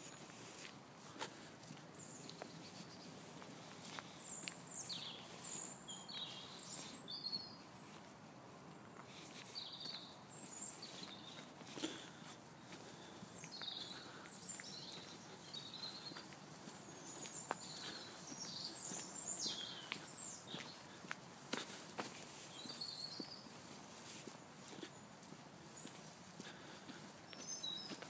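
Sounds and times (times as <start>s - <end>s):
faint footsteps on tarmac: 0.0s - 28.0s
small birds chirping: 0.0s - 28.0s.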